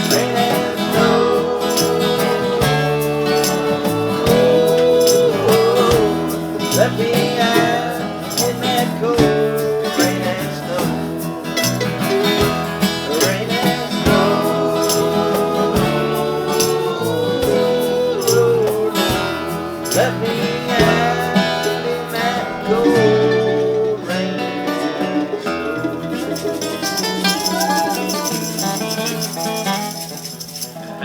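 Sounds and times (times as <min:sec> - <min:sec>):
band playing folk-rock song: 0:00.0 - 0:31.0
melodic guitar lead sliding: 0:00.0 - 0:31.0.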